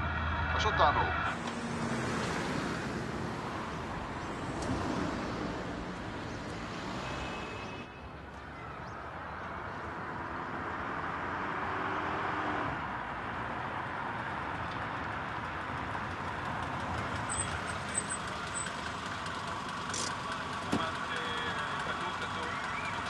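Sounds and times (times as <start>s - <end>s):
car engine and tyre noise: 0.0s - 23.0s.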